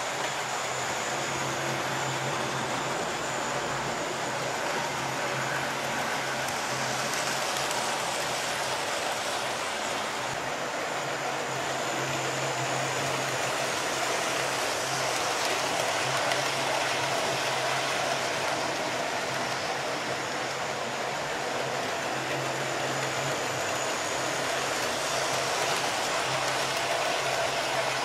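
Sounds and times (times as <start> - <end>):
model train wheels whirring: 0.0 - 28.0.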